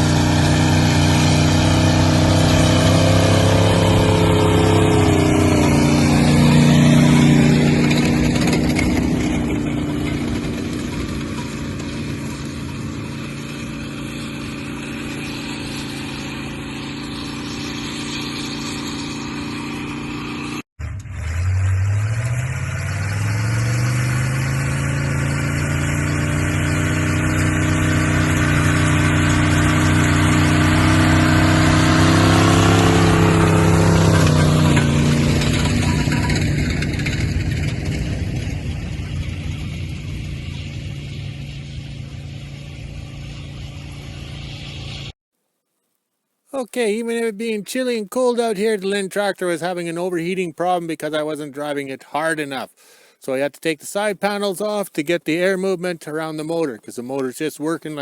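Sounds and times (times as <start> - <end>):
tractor engine accelerating: 0.0 - 45.2, 46.5 - 58.0.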